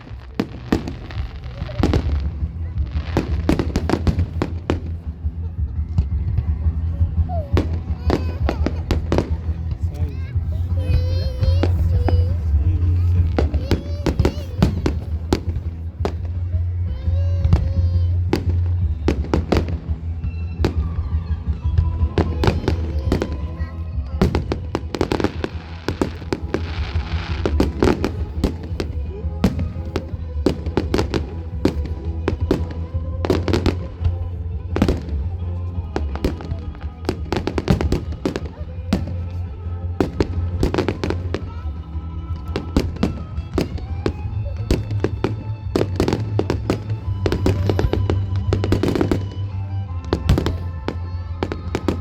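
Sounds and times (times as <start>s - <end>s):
fireworks banging: 0.0s - 52.0s
fireworks crackling: 0.0s - 52.0s
music with heavy bass: 0.0s - 52.0s.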